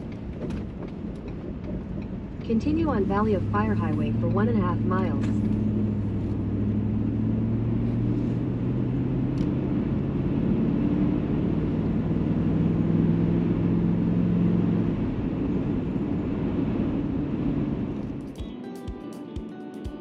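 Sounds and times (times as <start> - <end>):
truck engine drone: 0.0 - 18.4
road noise: 0.0 - 18.8.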